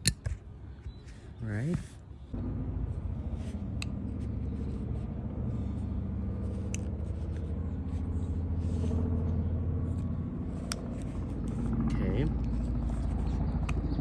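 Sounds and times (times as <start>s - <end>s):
low motor hum: 0.5s - 14.0s.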